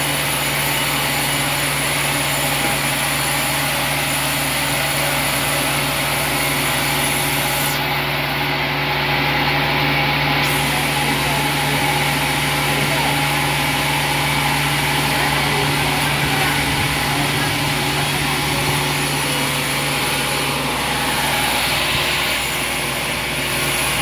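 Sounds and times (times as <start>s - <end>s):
band sawmill hum and hiss: 0.0s - 24.0s.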